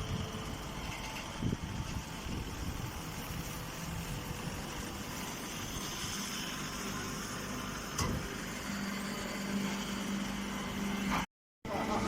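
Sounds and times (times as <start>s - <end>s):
baler machinery running: 0.0s - 12.0s.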